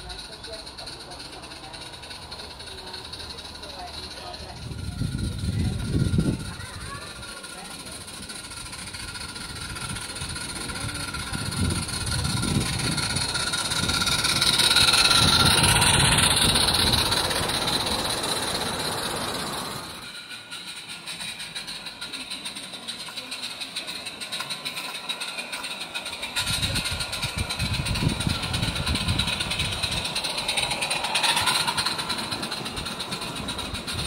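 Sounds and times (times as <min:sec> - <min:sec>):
hissing exhaust steam: 0:00.0 - 0:34.0
wagon wheels rattling over rails: 0:00.0 - 0:34.0
rapid even clicking: 0:05.3 - 0:34.0.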